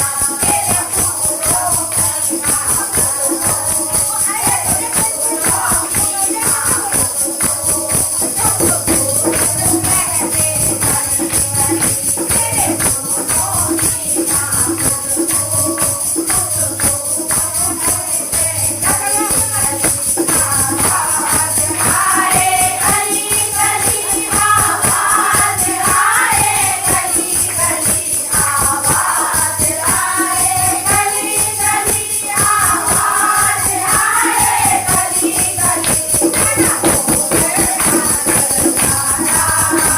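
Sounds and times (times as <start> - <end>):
group singing devotional song: 0.0 - 39.9
jingling hand percussion: 0.0 - 39.9.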